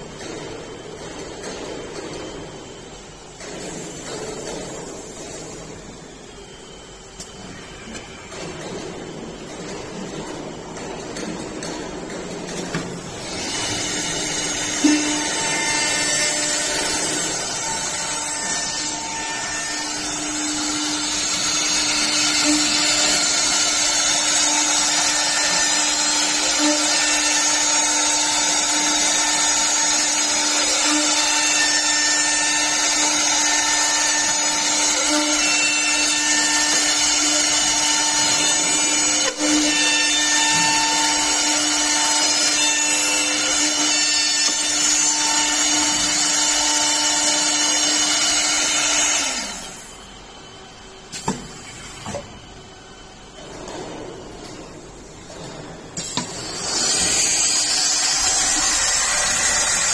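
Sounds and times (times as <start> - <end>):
drilling machine spindle whine: 0.0 - 53.8, 54.7 - 59.9.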